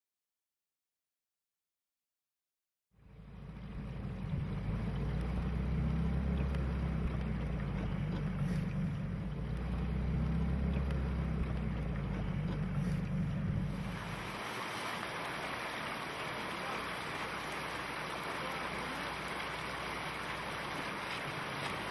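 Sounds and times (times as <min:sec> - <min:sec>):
wind: 0:02.9 - 0:21.9
outboard motor humming: 0:03.0 - 0:21.9
rippling water: 0:03.0 - 0:21.9.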